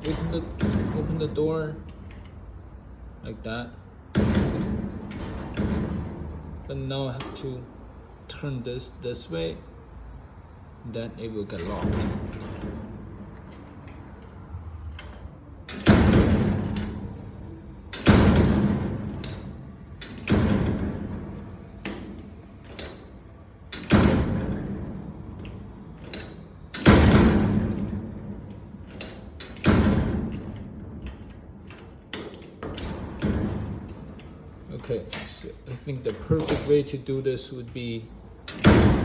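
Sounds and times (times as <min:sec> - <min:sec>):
lock clicking: 0:00.0 - 0:01.2, 0:01.8 - 0:02.5, 0:04.1 - 0:06.3, 0:07.2 - 0:07.4, 0:11.5 - 0:37.0, 0:37.6 - 0:39.0
gate door banging shut: 0:00.0 - 0:02.4, 0:04.0 - 0:07.6, 0:11.4 - 0:37.1, 0:38.3 - 0:39.0.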